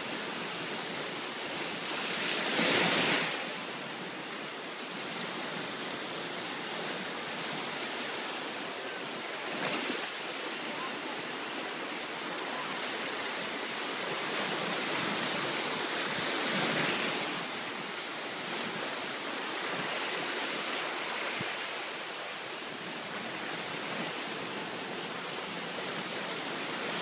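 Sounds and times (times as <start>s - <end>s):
surf washing around pilings: 0.0s - 27.0s.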